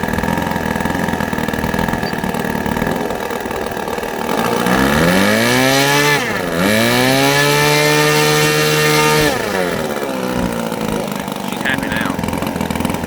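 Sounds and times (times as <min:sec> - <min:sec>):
model aircraft engine revving: 0:00.0 - 0:13.0.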